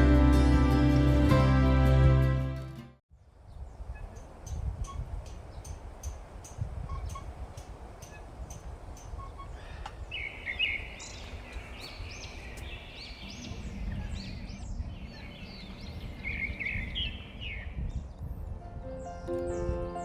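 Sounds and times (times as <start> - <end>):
birds chirping: 3.1 - 20.0.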